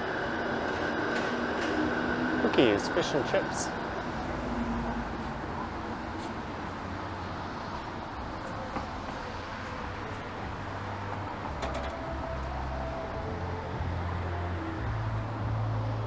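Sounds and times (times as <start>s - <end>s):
passing vehicles rumbling: 0.0s - 16.0s.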